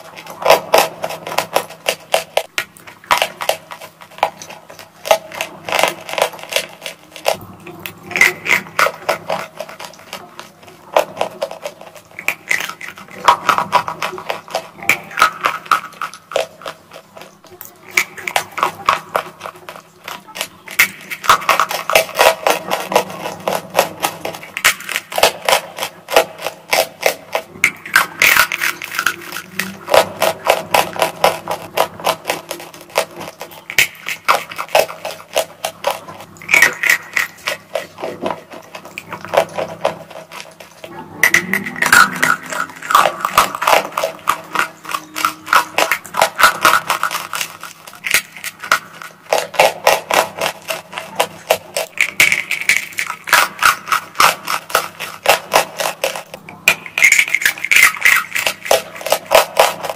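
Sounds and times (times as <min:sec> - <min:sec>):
crunching and chewing chalk: 0:00.0 - 0:59.9.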